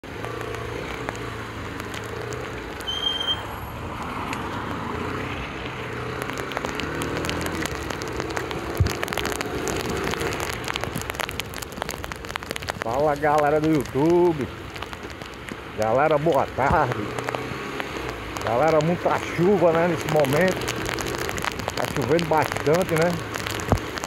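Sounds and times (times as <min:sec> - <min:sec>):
heavy rain: 0:00.0 - 0:24.0
raindrops ticking on microphone: 0:00.0 - 0:24.0.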